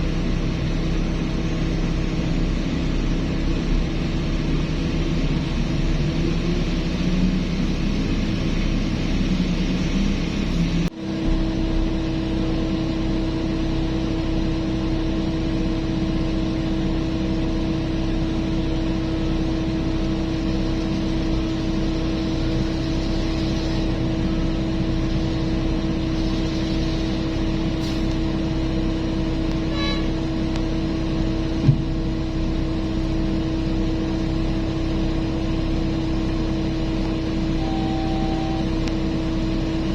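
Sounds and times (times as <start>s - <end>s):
diesel engines humming: 0.0s - 39.9s.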